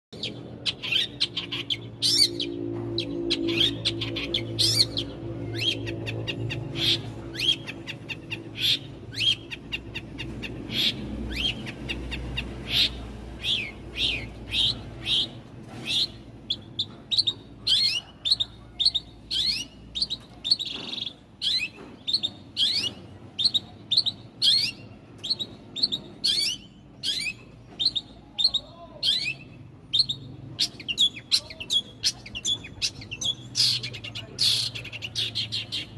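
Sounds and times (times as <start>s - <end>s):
songbird chirping: 0.2s - 35.9s.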